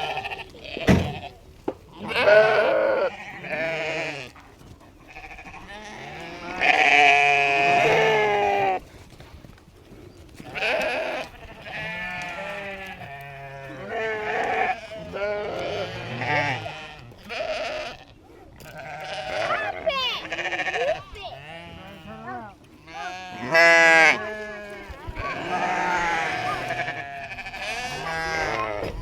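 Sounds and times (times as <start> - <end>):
sheep bleating: 0.0 - 4.4, 5.1 - 8.8, 10.4 - 29.0.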